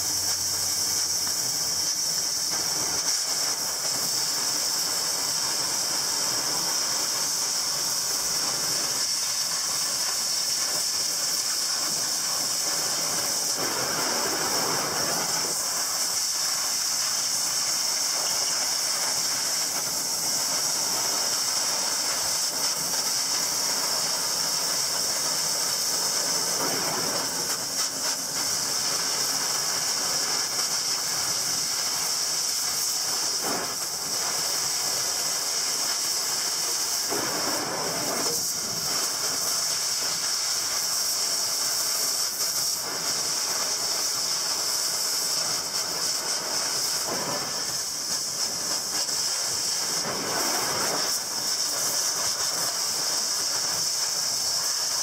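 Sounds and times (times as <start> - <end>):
cutting torch hissing: 0.0 - 55.0.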